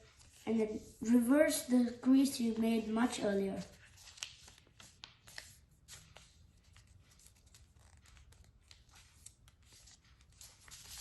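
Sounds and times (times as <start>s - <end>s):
paper rustling and creasing: 0.0s - 11.0s.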